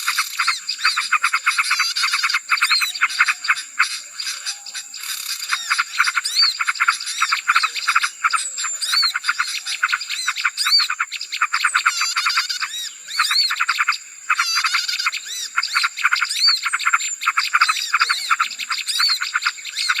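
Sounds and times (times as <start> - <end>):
small birds chattering and chirping: 0.0 - 20.0.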